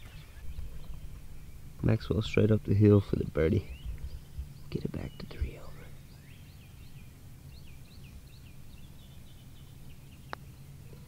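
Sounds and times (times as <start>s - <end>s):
low outdoor hum: 0.0s - 11.0s
small birds chirping: 0.0s - 11.0s.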